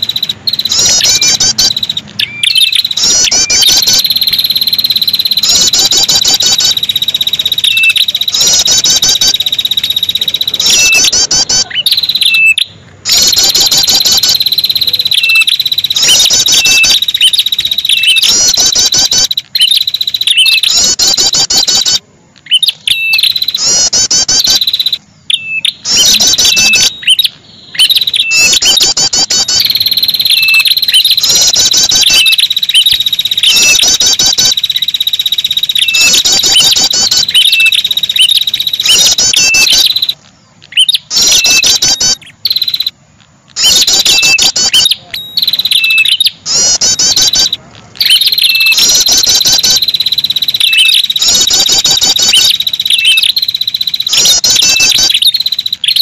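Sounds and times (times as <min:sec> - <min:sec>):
bird chirping trills: 0:00.0 - 0:56.0
high-pitched whine: 0:00.0 - 0:56.0.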